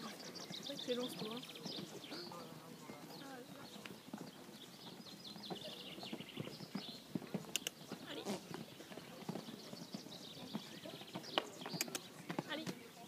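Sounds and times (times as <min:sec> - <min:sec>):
horse hoofbeats on sand: 0:00.0 - 0:13.0.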